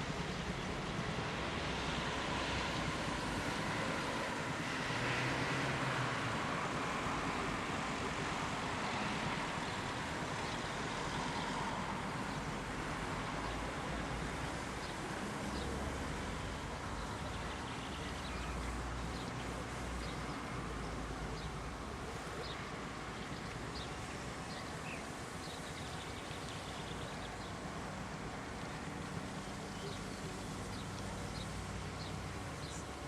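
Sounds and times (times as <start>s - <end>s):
wind: 0.0s - 33.0s.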